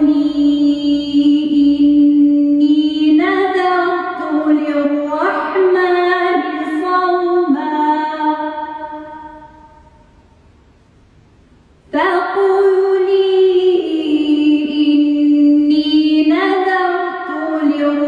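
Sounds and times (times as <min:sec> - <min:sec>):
woman chanting recitation: 0:00.0 - 0:09.8, 0:11.9 - 0:18.0.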